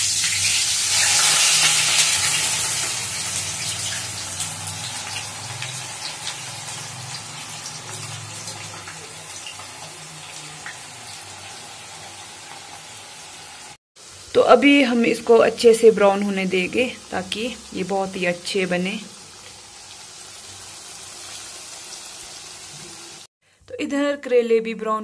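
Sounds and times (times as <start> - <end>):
vegetables sizzling in hot oil: 0.0 - 23.3.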